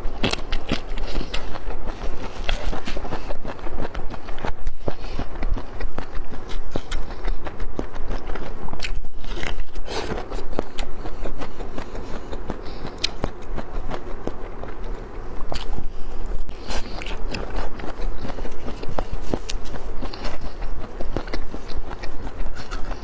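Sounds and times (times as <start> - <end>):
chewing and crunching: 0.0 - 23.0.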